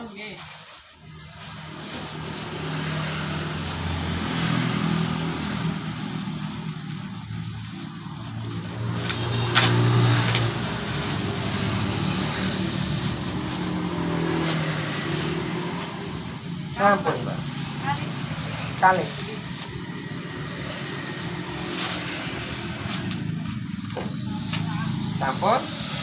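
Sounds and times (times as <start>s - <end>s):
vehicle engines passing: 0.5s - 26.0s.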